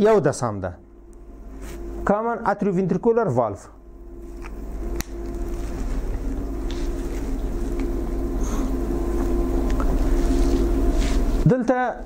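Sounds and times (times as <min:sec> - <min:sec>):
low hum with held tones: 0:00.0 - 0:12.0.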